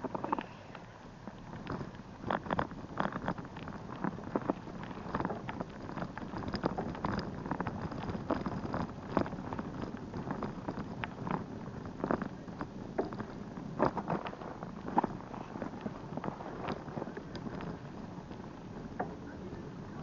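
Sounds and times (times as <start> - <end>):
bicycle rolling on rough path: 0.0 - 20.0.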